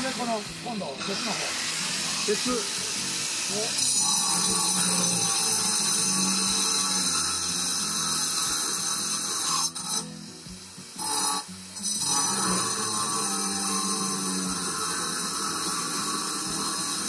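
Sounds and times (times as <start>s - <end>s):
angle grinder cutting steel: 0.0s - 17.0s.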